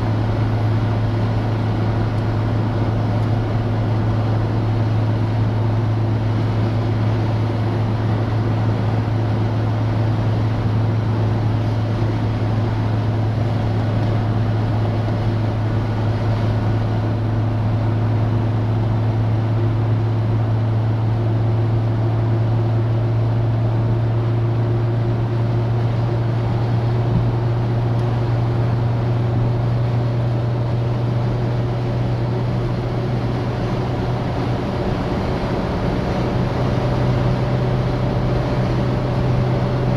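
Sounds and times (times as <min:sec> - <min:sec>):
car engine droning: 0:00.0 - 0:39.9
road and wind noise: 0:00.0 - 0:39.9.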